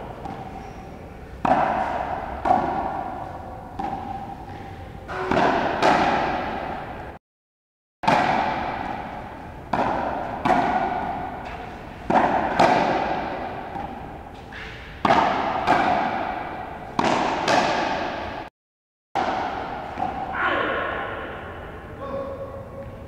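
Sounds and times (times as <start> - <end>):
rubber ball hitting rackets and wall: 0.0 - 7.2, 8.0 - 18.5, 19.2 - 21.8.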